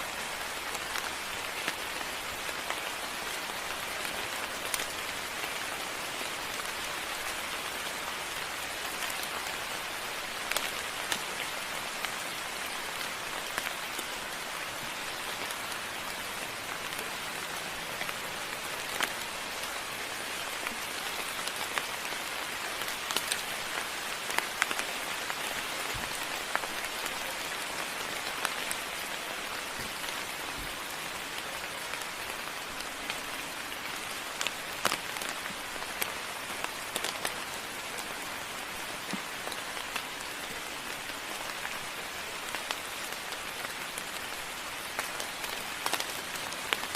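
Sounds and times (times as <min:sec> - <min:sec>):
rain hissing: 0:00.1 - 0:46.9
raindrops ticking: 0:00.3 - 0:40.3, 0:40.9 - 0:46.9.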